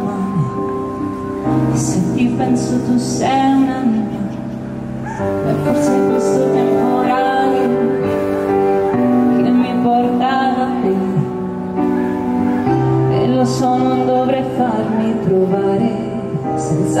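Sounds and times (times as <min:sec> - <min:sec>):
live pop band playing: 0:00.0 - 0:17.0
woman singing into a microphone: 0:00.0 - 0:17.0.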